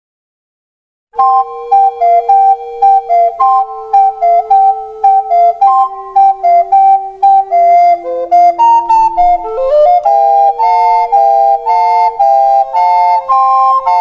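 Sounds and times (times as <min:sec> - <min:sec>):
low held note: 0:01.2 - 0:13.0
recorder playing melody: 0:01.2 - 0:14.0.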